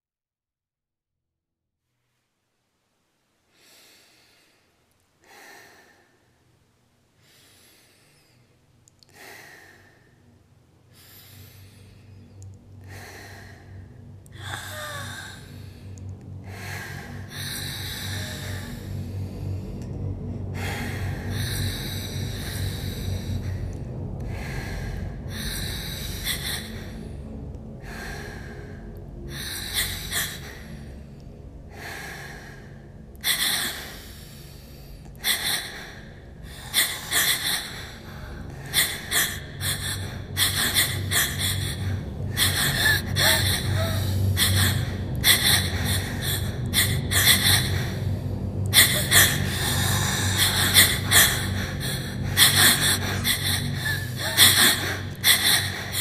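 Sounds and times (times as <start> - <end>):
low steady hum: 2.3 - 56.0
person gasping breaths: 3.5 - 6.4, 10.9 - 56.0.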